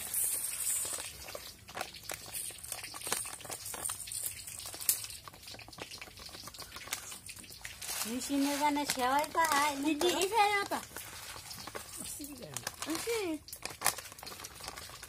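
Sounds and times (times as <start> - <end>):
rice pouring into steel bowl: 0.0 - 15.0.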